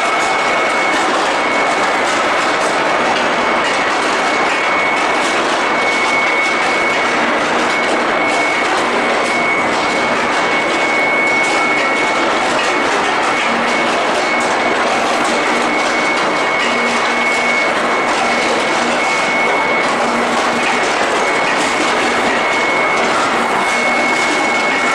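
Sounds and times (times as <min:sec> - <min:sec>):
furnace machine noise with whine: 0:00.0 - 0:24.9.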